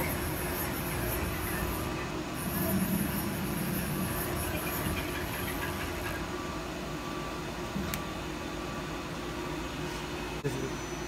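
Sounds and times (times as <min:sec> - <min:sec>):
lathe machine humming: 0:00.0 - 0:10.4.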